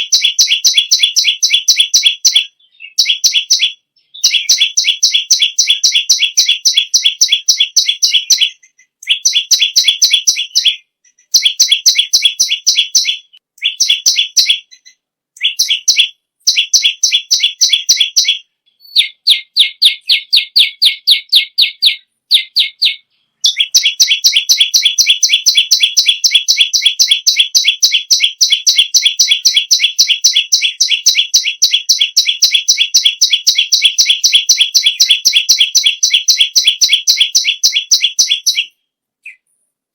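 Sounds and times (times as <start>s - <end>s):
songbird trilling: 0.0s - 38.7s.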